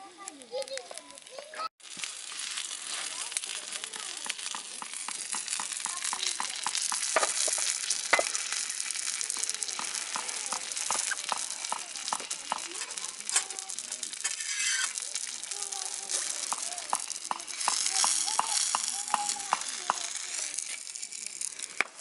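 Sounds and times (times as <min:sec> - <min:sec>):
fire popping and crackling: 0:00.0 - 0:22.0
food sizzling on a griddle: 0:00.0 - 0:22.0.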